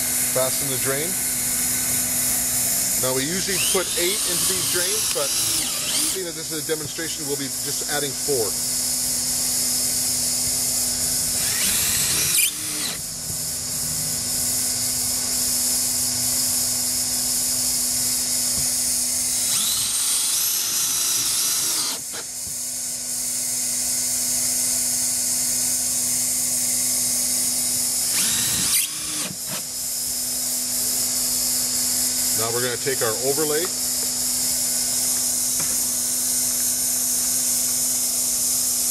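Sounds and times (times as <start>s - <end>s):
cordless drill whining: 0.0s - 13.4s, 14.4s - 38.9s
hot-air welder hiss and hum: 0.0s - 38.9s.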